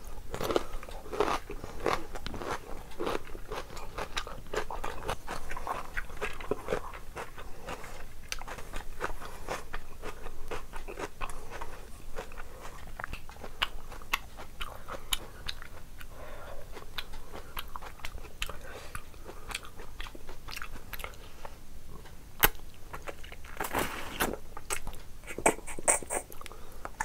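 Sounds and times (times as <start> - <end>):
chewing and mouth smacking: 0.3 - 16.1, 16.7 - 21.2, 22.4 - 27.0.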